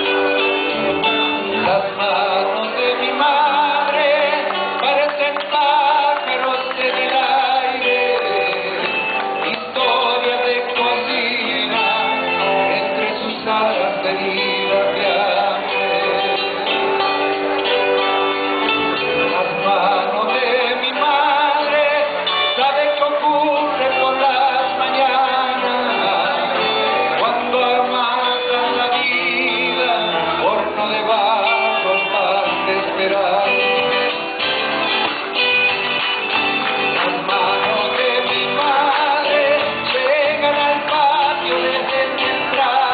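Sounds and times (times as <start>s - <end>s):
man singing: 0.0s - 18.1s, 18.9s - 35.1s, 36.3s - 42.9s
bass guitar: 0.0s - 42.9s
strummed acoustic guitars: 0.0s - 42.9s.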